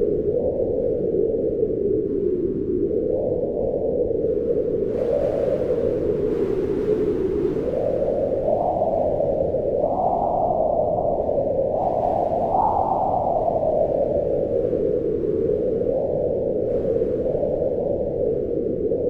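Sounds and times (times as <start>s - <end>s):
wind blowing in gusts: 0.0s - 19.0s.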